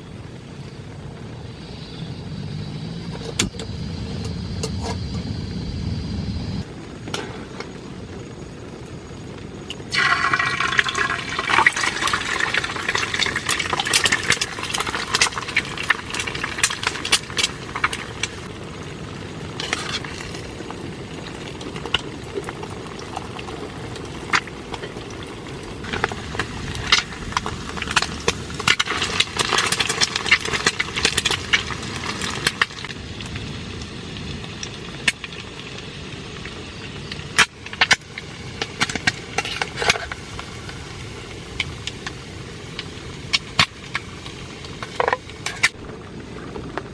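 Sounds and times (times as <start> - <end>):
rain on a tent: 6.6 - 46.9.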